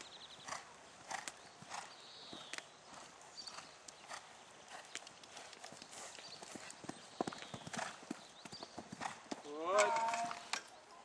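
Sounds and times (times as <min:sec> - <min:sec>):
horse hoofbeats on sand: 0:00.4 - 0:09.5.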